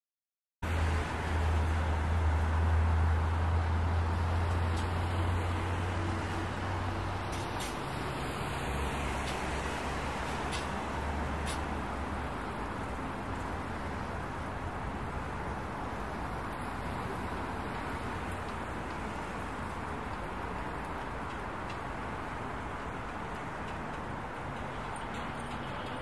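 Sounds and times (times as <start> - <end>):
heavy vehicle engine drone: 0.6 - 26.0
road traffic noise: 0.6 - 26.0.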